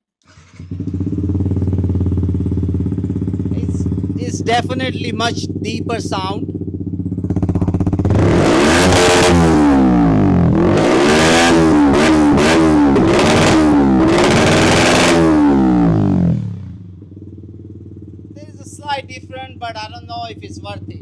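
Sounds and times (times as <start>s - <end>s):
motorcycle engine revving: 0.2s - 21.0s.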